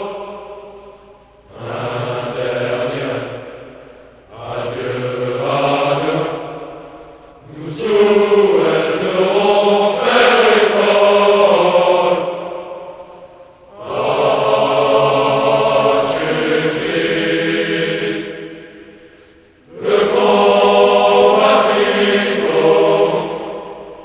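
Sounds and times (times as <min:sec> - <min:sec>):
choir singing slow song: 0:00.0 - 0:24.0.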